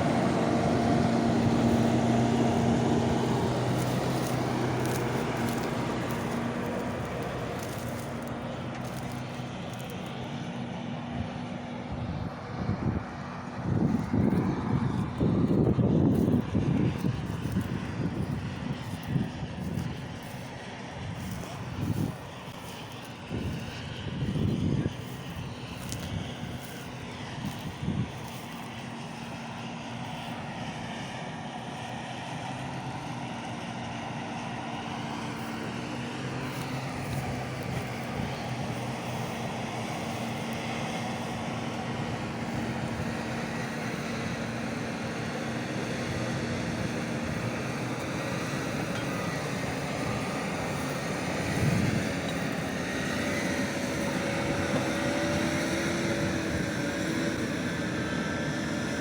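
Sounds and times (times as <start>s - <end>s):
large diesel engine running: 0.0s - 59.0s.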